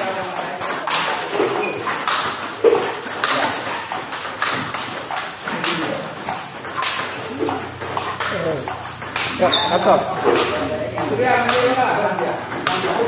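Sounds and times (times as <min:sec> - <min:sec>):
ball bouncing on table: 0:00.0 - 0:13.0
table tennis ball hitting paddle: 0:00.0 - 0:13.0.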